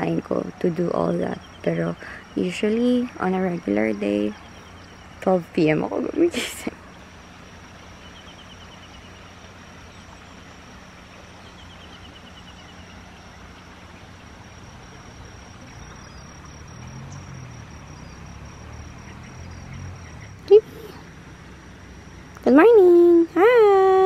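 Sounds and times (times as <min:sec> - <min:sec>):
steady hiss: 0:00.0 - 0:23.4.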